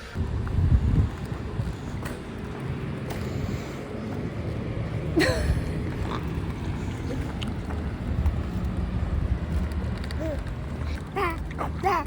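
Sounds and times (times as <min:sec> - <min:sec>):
wind rumbling on microphone: 0:00.0 - 0:11.9.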